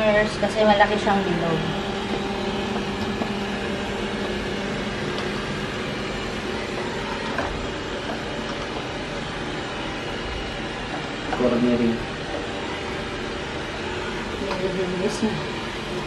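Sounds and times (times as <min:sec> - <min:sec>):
robot vacuum whirring: 0:00.0 - 0:16.0.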